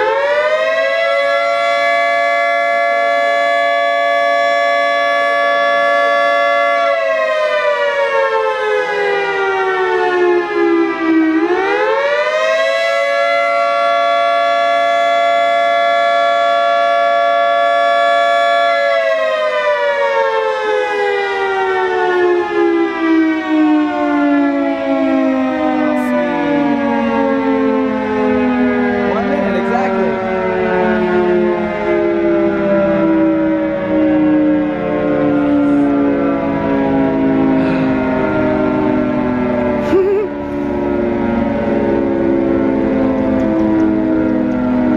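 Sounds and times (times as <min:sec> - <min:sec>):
rotating warning siren: 0:00.0 - 0:44.9.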